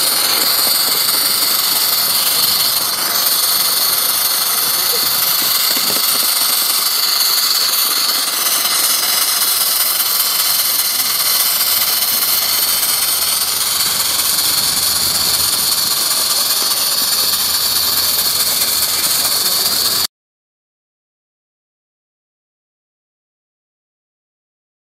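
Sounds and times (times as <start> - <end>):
steam locomotive hissing: 0.0 - 20.1.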